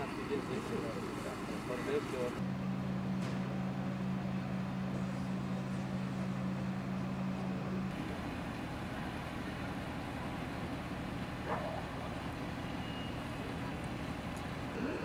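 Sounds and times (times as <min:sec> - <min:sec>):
engine humming: 0:00.0 - 0:15.0
outdoor background noise: 0:00.0 - 0:15.0.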